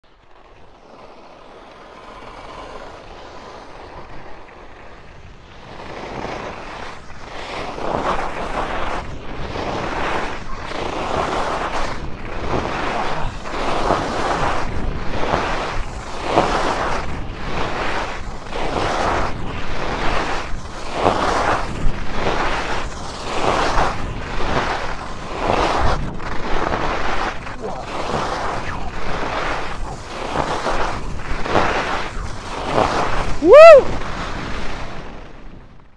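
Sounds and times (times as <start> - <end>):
skis scraping icy snow: 0.0 - 35.9
wind on microphone: 0.2 - 35.9.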